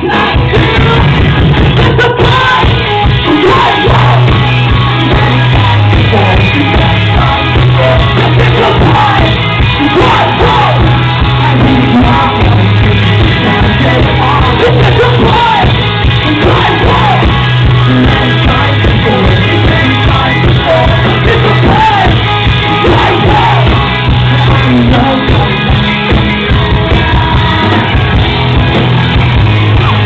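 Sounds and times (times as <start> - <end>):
person singing: 0.0 - 28.2
heavy bass line: 0.0 - 30.0
live rock band playing: 0.0 - 30.0.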